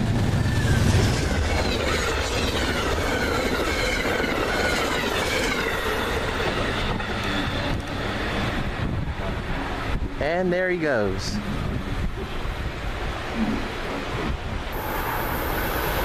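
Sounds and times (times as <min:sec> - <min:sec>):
train wheels rushing on rails: 0:00.0 - 0:10.2, 0:11.5 - 0:16.0.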